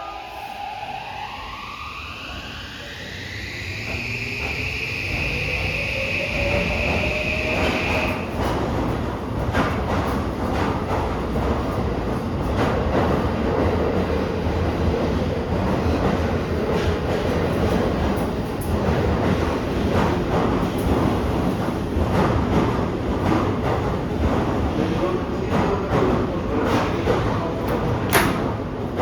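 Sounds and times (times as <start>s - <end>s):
train running rumble: 2.5s - 29.0s.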